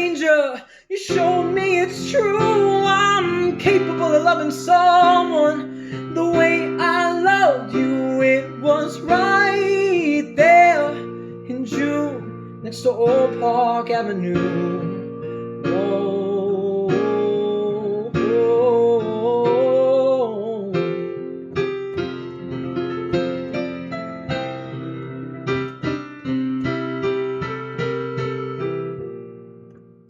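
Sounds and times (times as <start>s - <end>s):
keyboard chords and notes: 1.1s - 30.0s.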